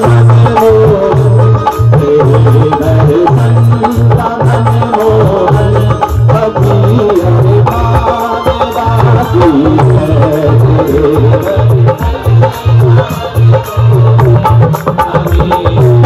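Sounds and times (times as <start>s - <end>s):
hand drum beat: 0.0s - 16.0s
harmonium and keyboard melody: 0.0s - 16.0s.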